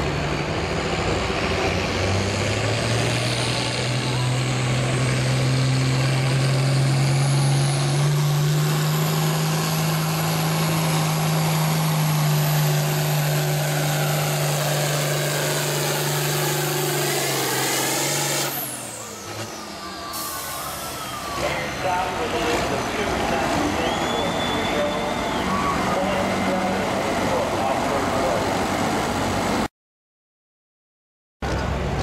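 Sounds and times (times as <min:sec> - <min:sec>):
tractor diesel engine under load: 0:00.0 - 0:29.7, 0:31.4 - 0:32.0.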